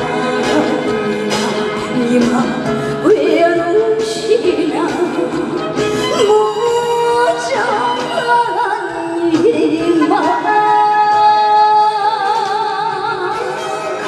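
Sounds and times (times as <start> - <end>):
band backing music: 0.0 - 14.0
woman singing: 0.0 - 14.0.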